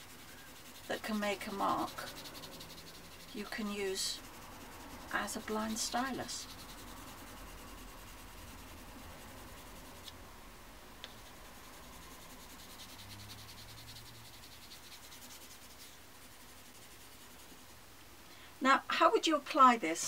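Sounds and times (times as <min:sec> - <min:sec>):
pencil scribbling on paper: 0:00.0 - 0:10.2, 0:11.1 - 0:17.8.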